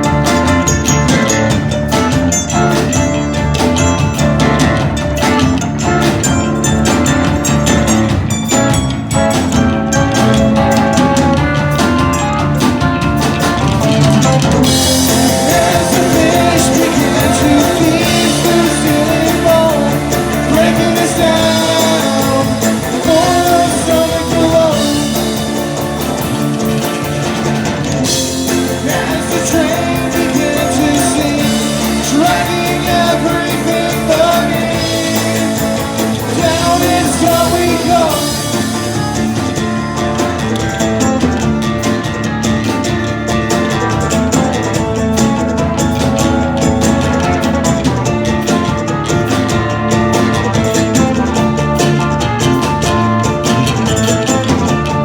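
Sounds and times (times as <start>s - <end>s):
live rock band with vocals: 0.0s - 55.0s.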